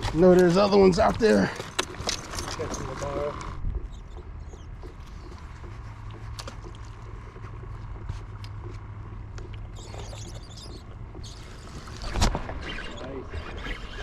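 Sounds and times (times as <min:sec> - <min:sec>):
motor humming: 0:01.1 - 0:14.0.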